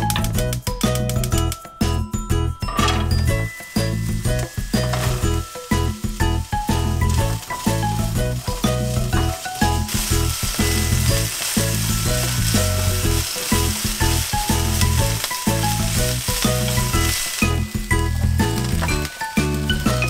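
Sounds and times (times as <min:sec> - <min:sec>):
melodic background music: 0:00.0 - 0:20.0
vegetables sizzling in frying pan: 0:03.4 - 0:20.0.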